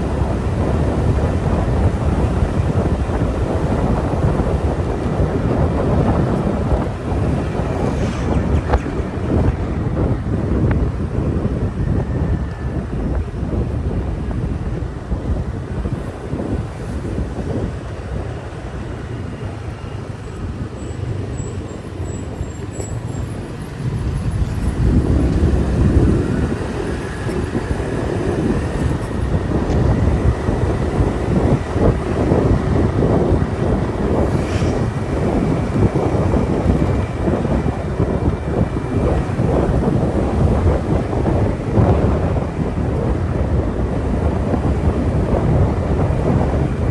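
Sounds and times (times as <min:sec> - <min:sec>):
motorbike engine and tyres: 0:00.0 - 0:46.9
wind on microphone: 0:00.0 - 0:46.9.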